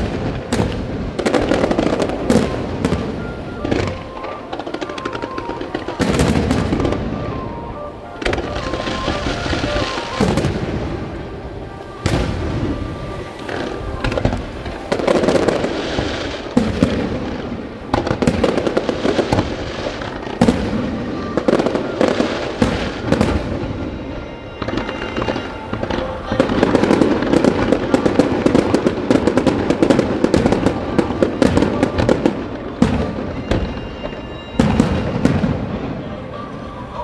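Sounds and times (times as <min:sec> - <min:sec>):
fireworks crackle: 0:00.0 - 0:37.0
fireworks shells bursting: 0:00.0 - 0:37.0.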